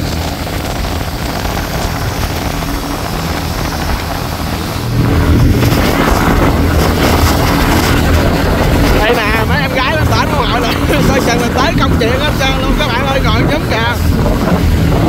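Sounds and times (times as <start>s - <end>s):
boat diesel engine droning: 0.0s - 15.0s
rushing air and water: 0.0s - 15.0s.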